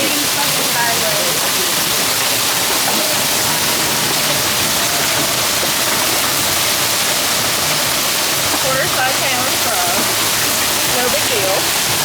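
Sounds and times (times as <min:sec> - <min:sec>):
hail and rain pouring: 0:00.0 - 0:12.0
wind: 0:00.0 - 0:12.0.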